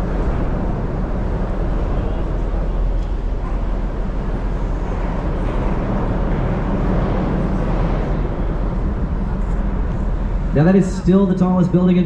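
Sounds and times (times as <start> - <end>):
boat engine rumbling: 0.0 - 11.9.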